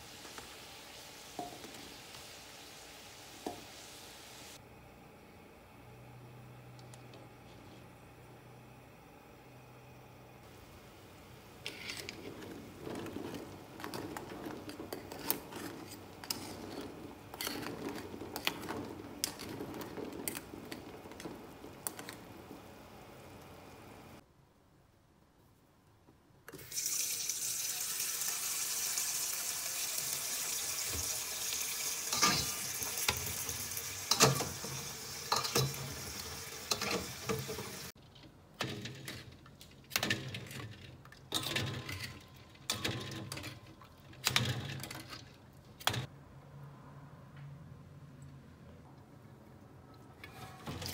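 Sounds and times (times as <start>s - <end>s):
pot of eggs boiling: 0.0s - 24.2s, 26.5s - 46.1s.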